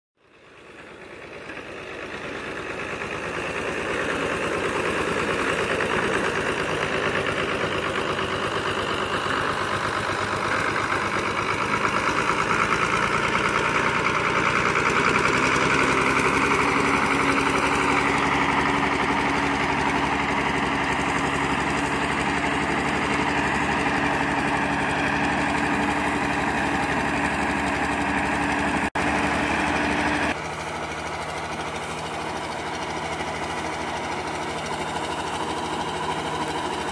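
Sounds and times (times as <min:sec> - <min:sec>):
tractor diesel engine under load: 0:00.2 - 0:36.9.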